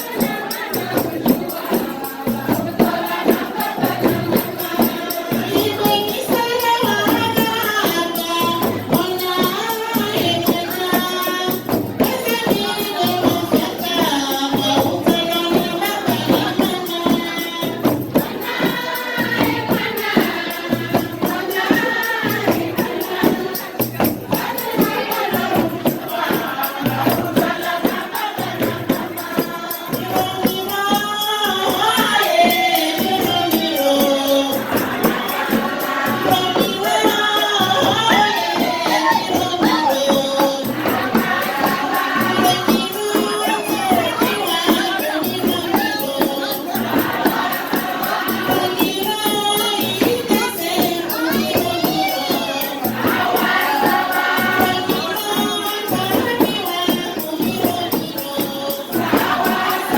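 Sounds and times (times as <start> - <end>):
group of voices singing: 0.0 - 59.9
hand percussion with jingles: 0.0 - 59.9.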